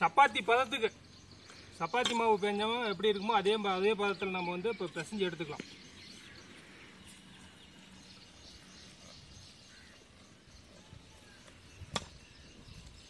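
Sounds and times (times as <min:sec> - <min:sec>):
bird chirps: 0:00.0 - 0:13.0
faint outdoor background: 0:00.0 - 0:13.0.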